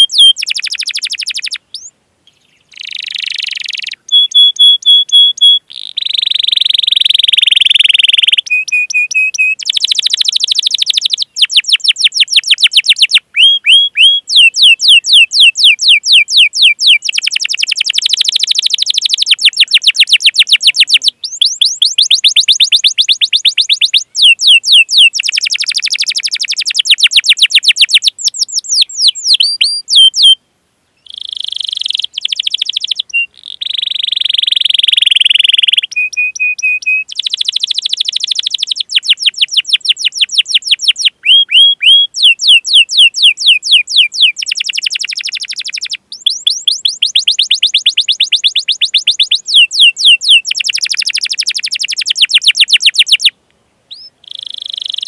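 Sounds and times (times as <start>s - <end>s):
canary singing: 0.0s - 30.4s, 31.0s - 55.0s.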